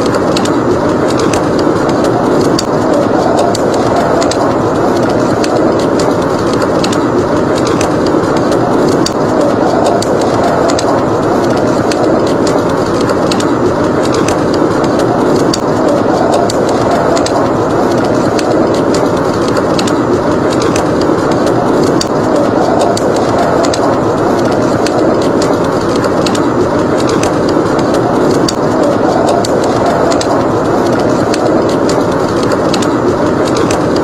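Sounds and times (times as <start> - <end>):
blizzard wind blowing: 0.0 - 34.0
wood fire crackling: 0.0 - 34.0.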